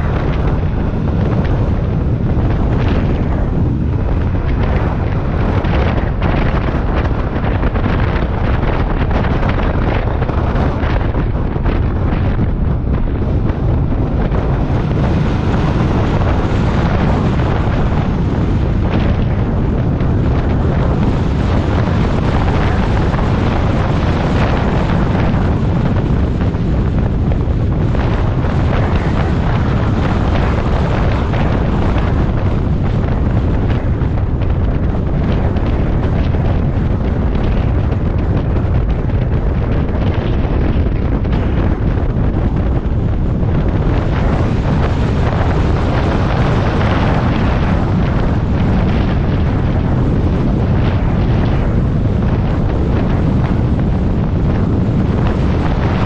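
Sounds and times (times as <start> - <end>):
wind buffeting the microphone: 0.0 - 56.0.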